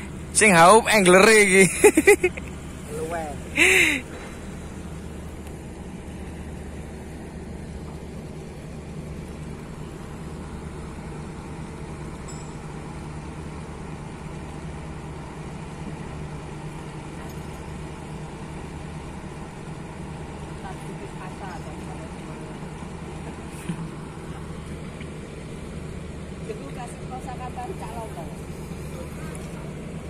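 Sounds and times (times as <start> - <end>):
ship engine droning: 0.0 - 30.0.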